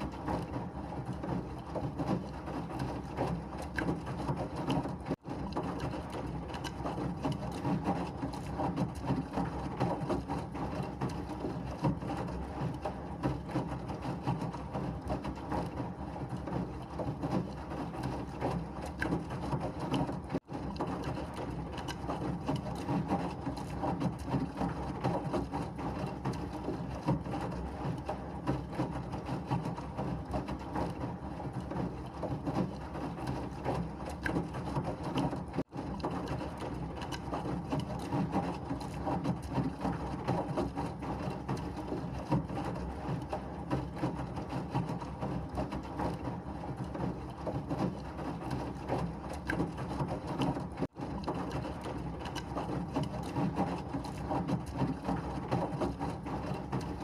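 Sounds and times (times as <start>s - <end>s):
washing machine churning: 0.0s - 57.0s.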